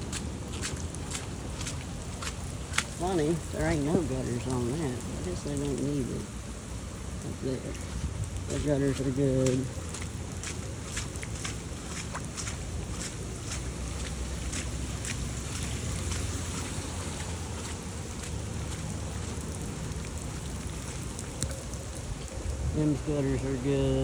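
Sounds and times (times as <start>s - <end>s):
steady rain: 0.0s - 24.0s
wind rumbling on microphone: 0.0s - 24.0s.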